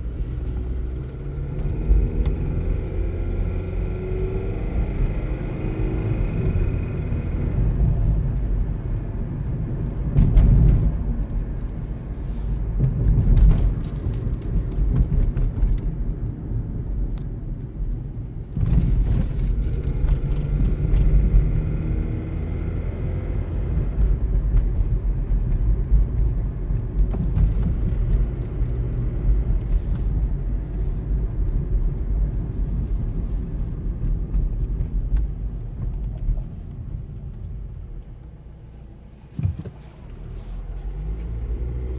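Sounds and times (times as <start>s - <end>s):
car running noise: 0.0s - 41.9s.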